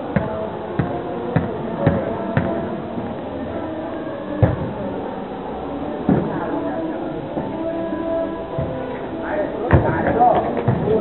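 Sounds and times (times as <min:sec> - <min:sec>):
background murmur: 0:00.0 - 0:11.0.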